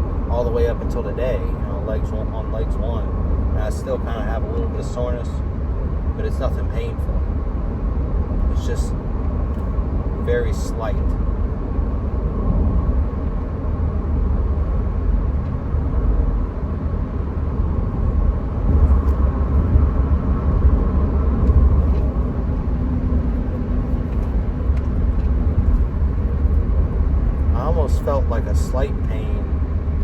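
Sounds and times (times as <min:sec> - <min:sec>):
car driving rumble: 0:00.0 - 0:30.0.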